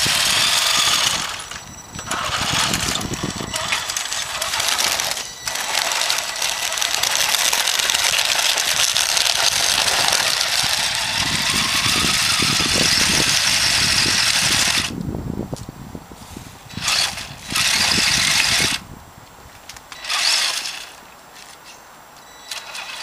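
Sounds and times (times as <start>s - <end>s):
plow scraping and rattling: 0.0s - 15.0s, 16.2s - 18.8s, 19.9s - 23.0s
toy truck motor whine: 0.0s - 15.0s, 16.7s - 18.9s, 19.9s - 21.0s, 22.2s - 23.0s.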